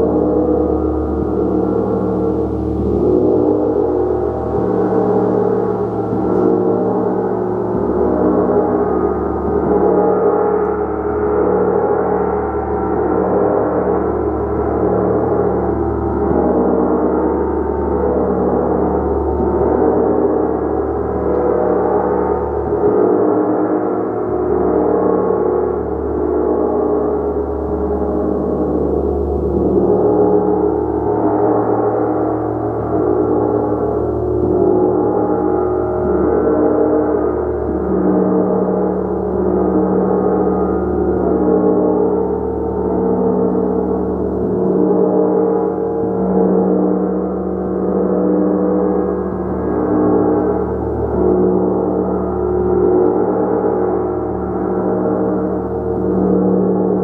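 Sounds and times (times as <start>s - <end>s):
large gong played with mallet: 0.0s - 57.0s.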